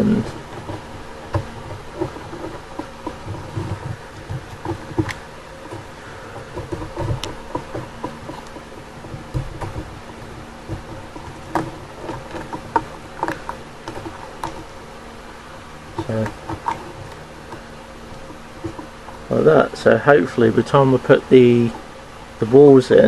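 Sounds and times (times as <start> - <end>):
hands clicking and rustling: 0.0 - 22.9
steady low hum: 0.0 - 23.0.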